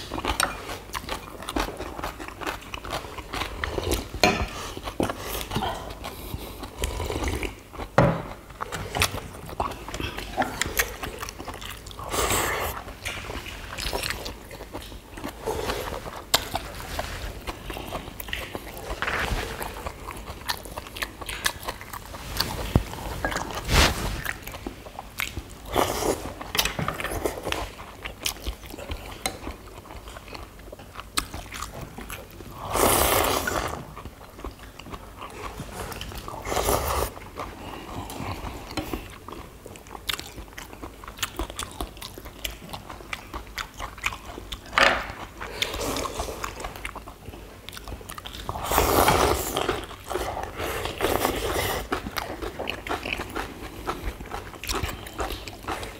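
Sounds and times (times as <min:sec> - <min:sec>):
people chewing and crunching: 0:00.0 - 0:55.9.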